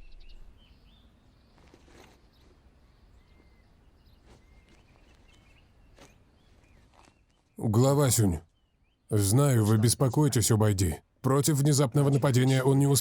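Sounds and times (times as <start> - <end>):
soft bird chirps: 0.0 - 10.7.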